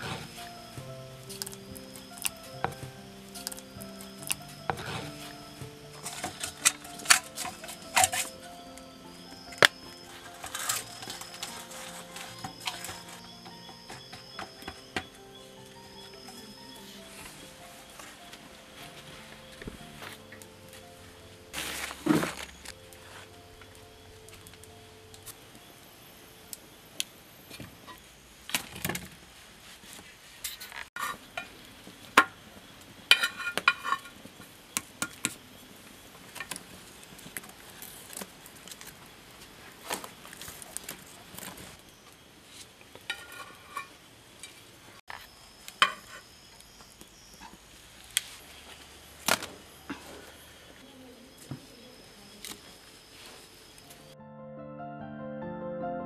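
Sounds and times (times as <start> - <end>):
faint steady background noise: 0.0 - 56.0.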